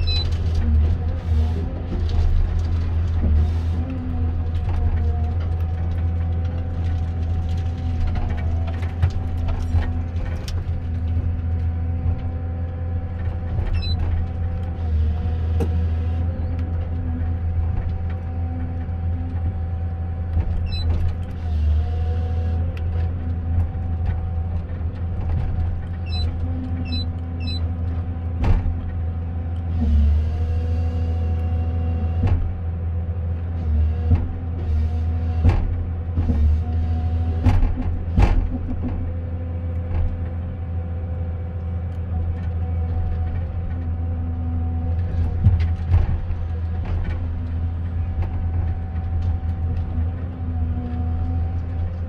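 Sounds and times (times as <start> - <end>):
constant machine whine: 0.0 - 52.0
diesel engine humming: 0.0 - 52.0.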